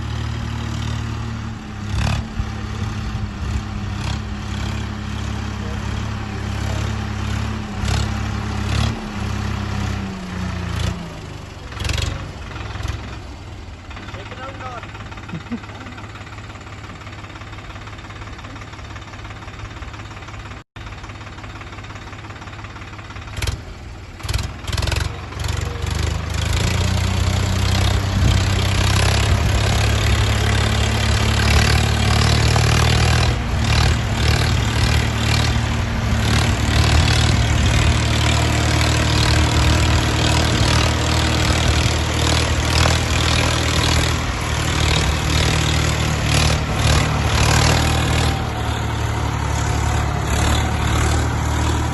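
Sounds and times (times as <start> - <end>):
tractor diesel engine starting: 0.0 - 51.9.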